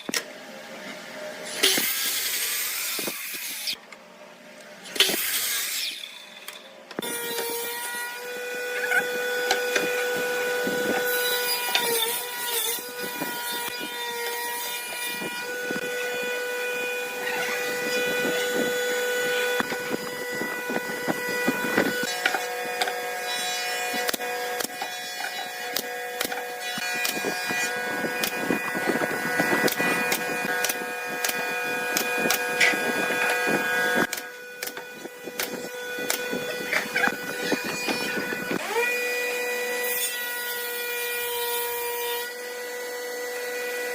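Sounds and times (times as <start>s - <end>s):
power tool motor whine: 4.9s - 43.9s.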